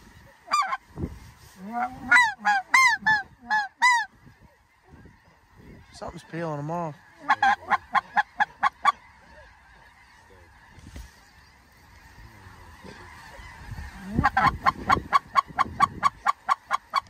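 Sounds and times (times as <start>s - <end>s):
faint goose calls: 0.0s - 17.0s
goose honking rapidly: 0.0s - 17.0s.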